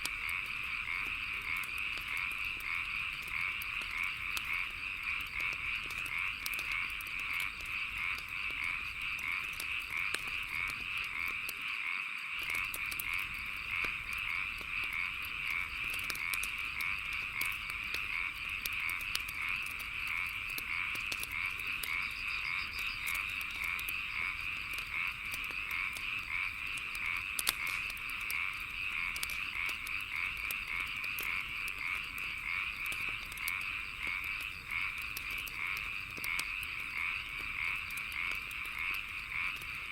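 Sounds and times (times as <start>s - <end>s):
wood fire crackling: 0.0s - 11.8s, 12.4s - 39.9s
frogs croaking: 0.0s - 39.9s.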